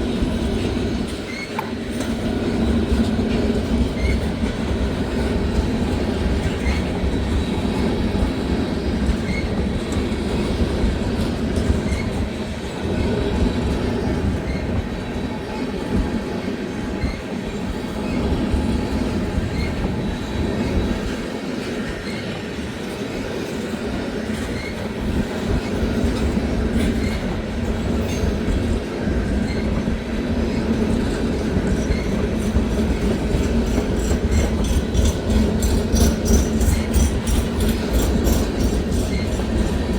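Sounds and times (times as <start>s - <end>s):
freight train rumbling on rails: 0.0s - 39.9s.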